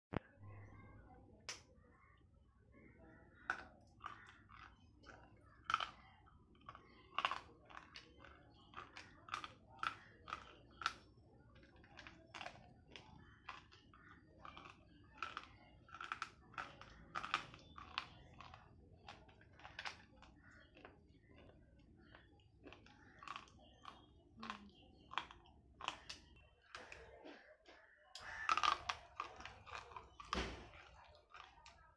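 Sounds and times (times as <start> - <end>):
chewing crunches: 2.8 - 31.9.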